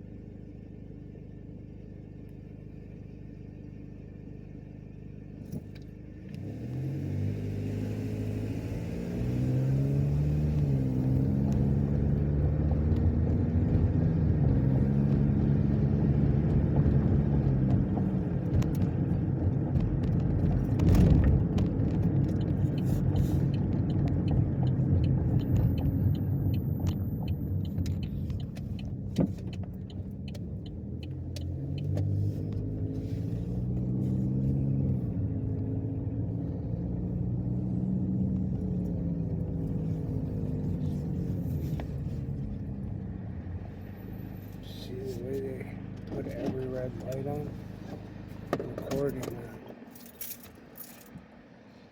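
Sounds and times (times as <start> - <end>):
road rumble: 0.0 - 51.9
car engine accelerating: 5.4 - 51.9.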